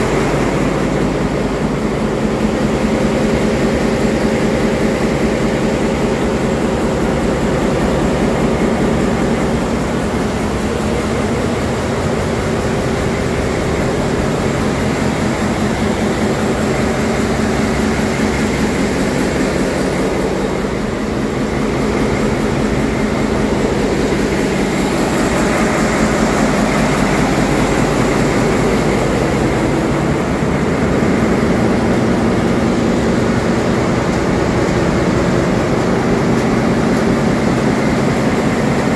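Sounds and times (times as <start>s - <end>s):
ship engine machinery droning: 0.0s - 38.9s.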